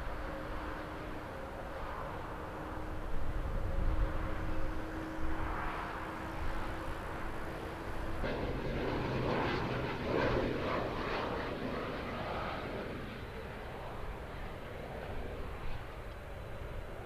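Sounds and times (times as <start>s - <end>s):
jet engines humming: 0.0s - 17.0s
turboprop plane flying overhead: 0.0s - 17.0s.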